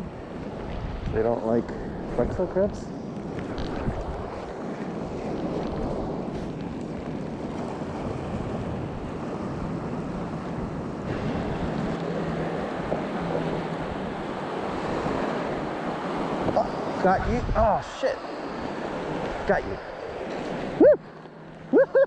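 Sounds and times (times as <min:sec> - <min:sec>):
small waves washing onto sand: 0:00.0 - 0:22.0
wind on microphone: 0:00.0 - 0:22.0.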